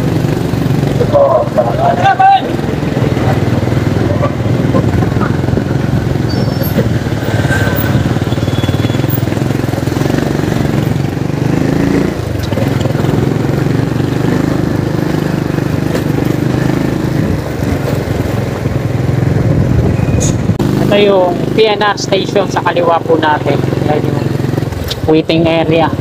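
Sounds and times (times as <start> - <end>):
small vehicle engine running: 0.0 - 26.0.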